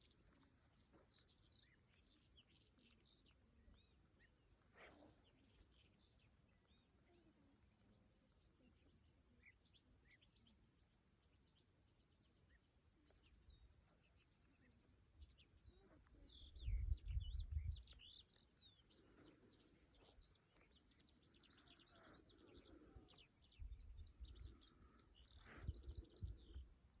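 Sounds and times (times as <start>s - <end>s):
songbirds chirping and trilling: 0.0s - 27.0s.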